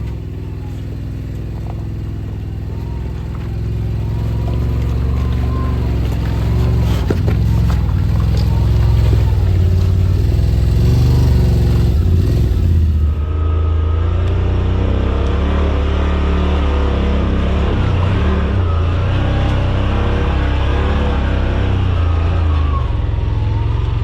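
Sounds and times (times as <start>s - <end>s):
utility vehicle engine droning: 0.0s - 24.0s.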